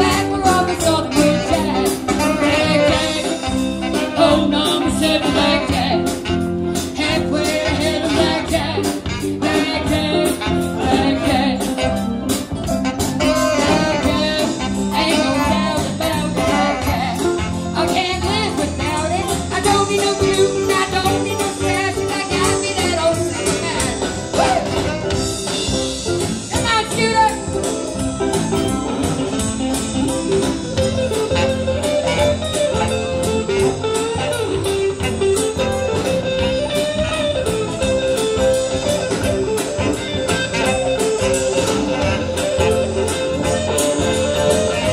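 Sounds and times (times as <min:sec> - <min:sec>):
live blues band playing: 0:00.0 - 0:44.9.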